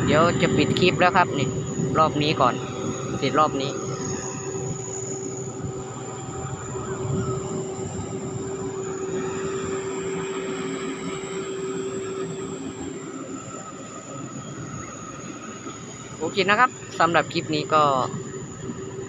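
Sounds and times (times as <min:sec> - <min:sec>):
combine harvester running: 0:00.0 - 0:19.0
high turbo whistle: 0:00.0 - 0:19.0.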